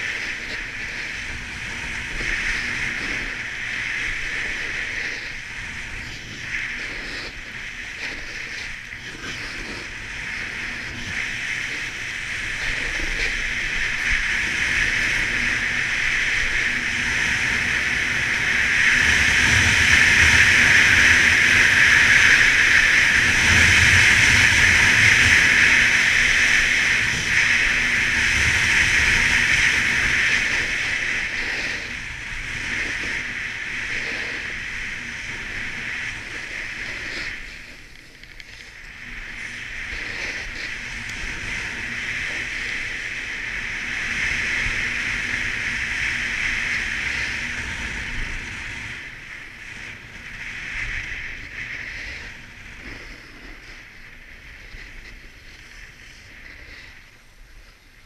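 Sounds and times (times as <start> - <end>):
snowboard scraping on snow: 0.0 - 58.0.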